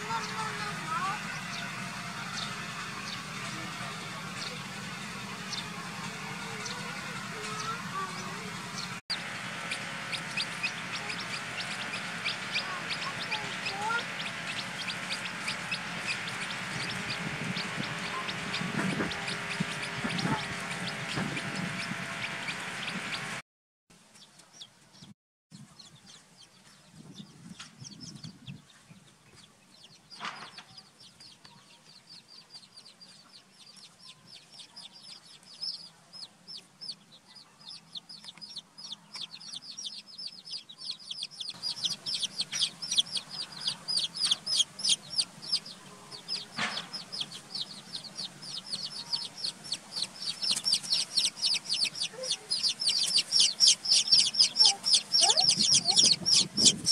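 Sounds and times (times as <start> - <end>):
chicks peeping: 0.0 - 23.4, 24.1 - 56.9.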